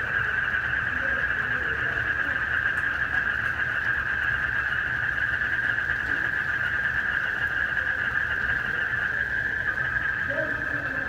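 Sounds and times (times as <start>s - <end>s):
frogs and crickets trilling: 0.0s - 11.0s.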